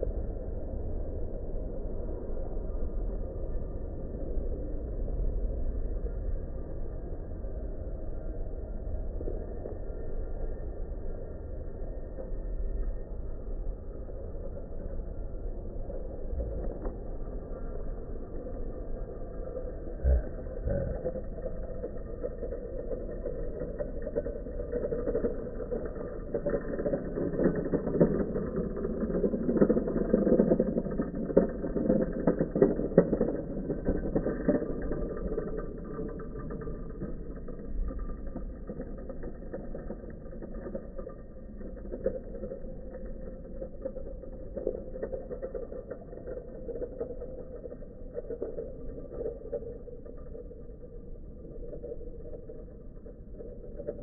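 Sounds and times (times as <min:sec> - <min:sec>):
scooter wheels rolling on asphalt: 0:08.6 - 0:54.0.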